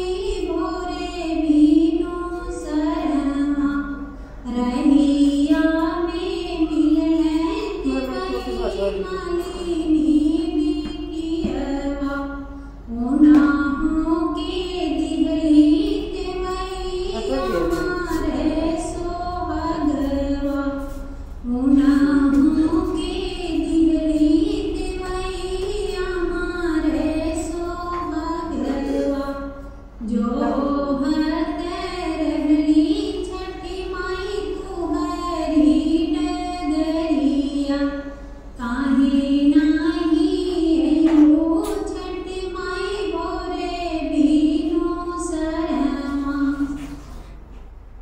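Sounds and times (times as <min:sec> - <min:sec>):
woman singing devotional song: 0:00.0 - 0:47.0.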